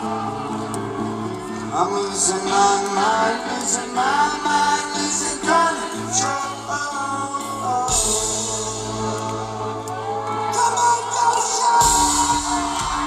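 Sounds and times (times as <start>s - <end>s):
person singing: 0.0s - 13.0s
rock band playing live: 0.0s - 13.0s.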